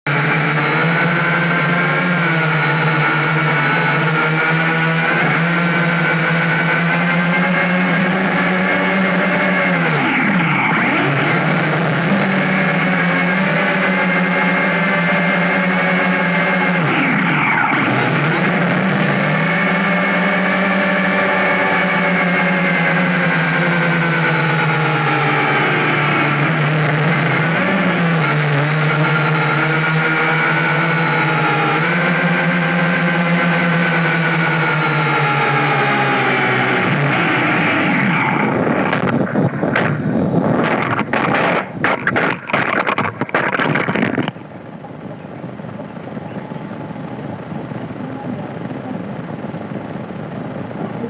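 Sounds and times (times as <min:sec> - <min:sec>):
engine running steadily: 0:00.0 - 0:51.0
motor whining at high speed: 0:00.0 - 0:51.0.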